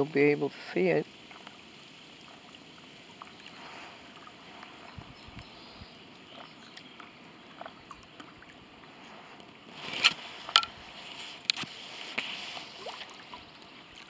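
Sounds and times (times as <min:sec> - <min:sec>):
lake waves lapping: 0:00.0 - 0:14.0.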